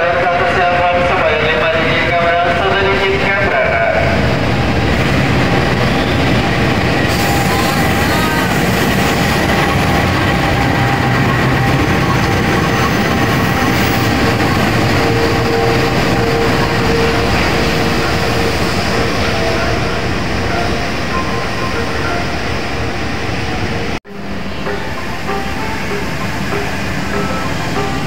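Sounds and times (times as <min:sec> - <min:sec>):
train engine and wheels rumbling: 0:00.0 - 0:28.0.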